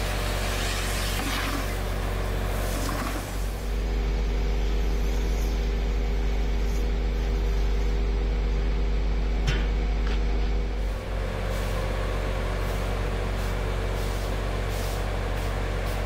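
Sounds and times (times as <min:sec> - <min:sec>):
truck engine running: 0:01.6 - 0:16.0.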